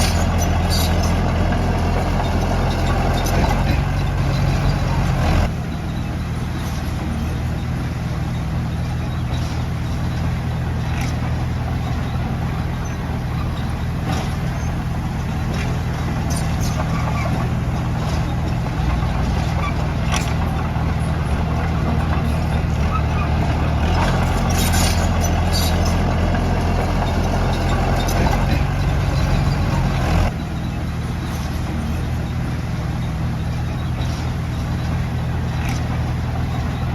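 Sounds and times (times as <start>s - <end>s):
bulldozer diesel engine: 0.0s - 36.9s.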